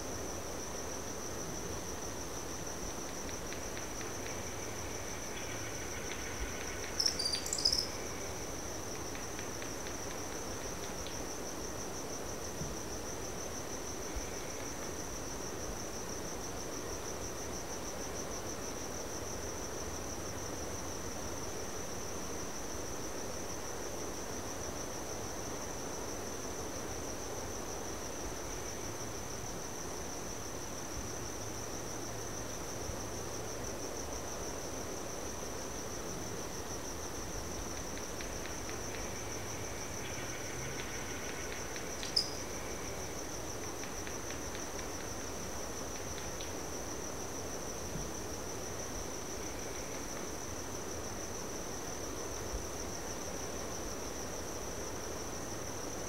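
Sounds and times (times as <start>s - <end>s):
crickets chirping: 0.0s - 56.0s
soft background hiss: 0.0s - 56.0s.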